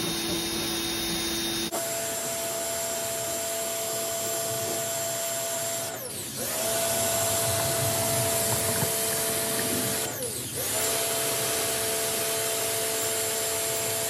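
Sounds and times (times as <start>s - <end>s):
pressure washer motor whining: 0.0s - 13.4s.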